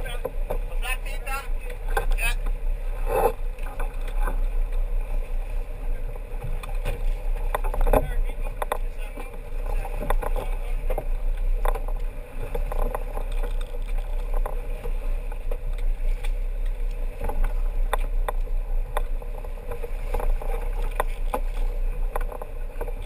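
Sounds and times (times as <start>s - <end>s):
boat engine running: 0.0s - 23.0s
water splashing: 0.0s - 23.0s.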